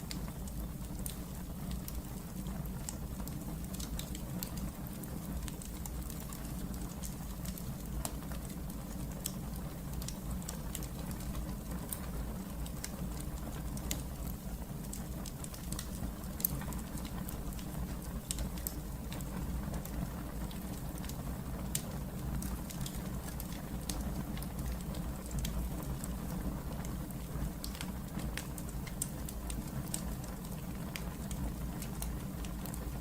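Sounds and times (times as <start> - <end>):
fire crackling and popping: 0.0 - 33.0
wood fire flames rumbling: 0.0 - 33.0.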